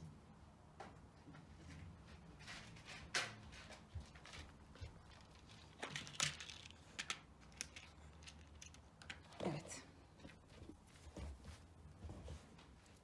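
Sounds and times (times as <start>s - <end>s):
handling clicks and rustles: 2.5s - 13.0s.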